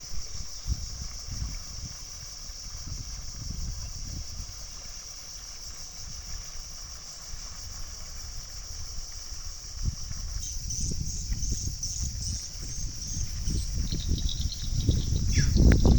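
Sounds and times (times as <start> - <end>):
steady high hiss: 0.0 - 15.9
wind buffeting microphone: 0.0 - 15.9.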